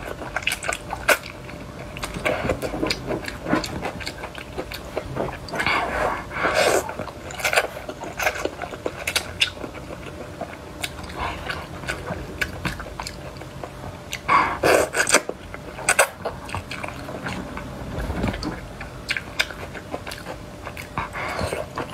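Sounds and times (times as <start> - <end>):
noodles slurped and chewed: 0.0 - 21.9.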